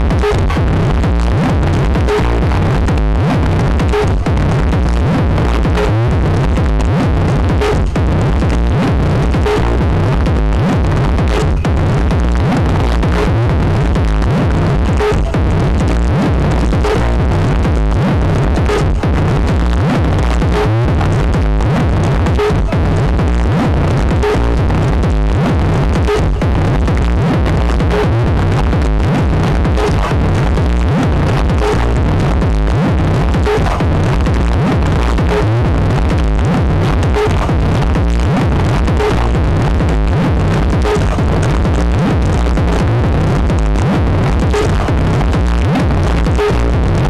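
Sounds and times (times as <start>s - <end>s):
loud techno music: 0.0s - 47.0s.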